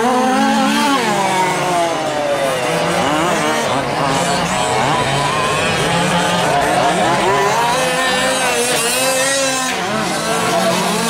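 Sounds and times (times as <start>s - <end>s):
small two-stroke engines revving: 0.0s - 11.0s.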